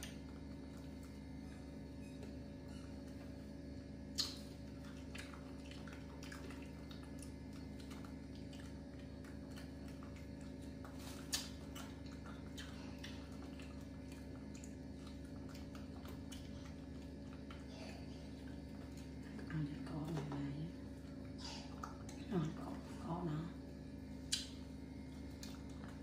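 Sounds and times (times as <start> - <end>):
chewing: 0.0 - 26.0.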